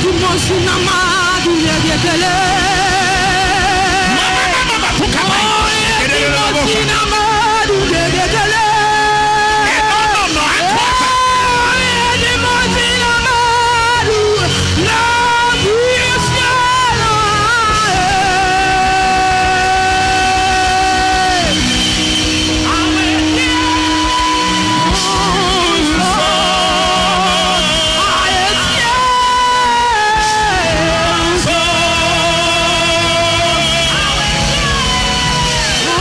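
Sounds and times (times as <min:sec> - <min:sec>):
band accompaniment: 0:00.0 - 0:36.0
person singing with vibrato: 0:00.0 - 0:36.0.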